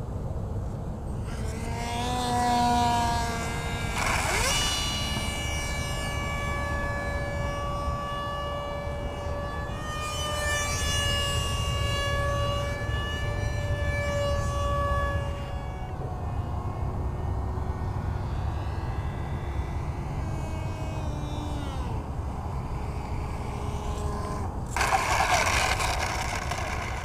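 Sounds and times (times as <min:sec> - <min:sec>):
model jet fan whining: 0:00.0 - 0:27.0.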